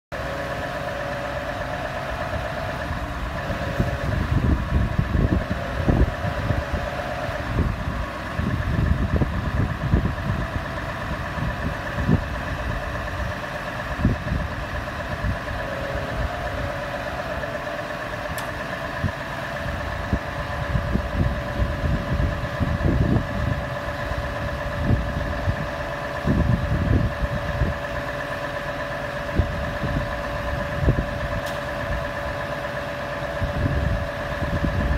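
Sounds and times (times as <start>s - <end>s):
diesel engine running: 0.1s - 34.9s
hydraulic pump whine: 0.1s - 34.9s
low rumbles: 0.1s - 34.9s.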